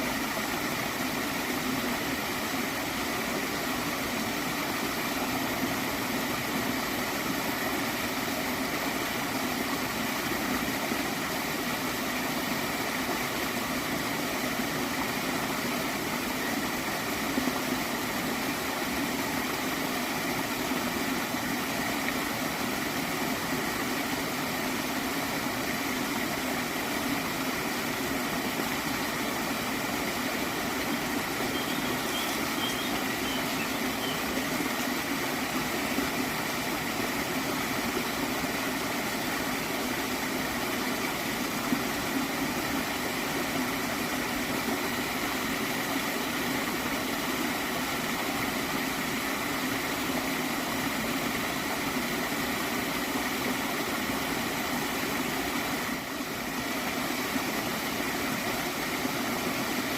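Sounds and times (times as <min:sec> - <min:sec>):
stream flowing and gurgling: 0:00.0 - 0:59.9.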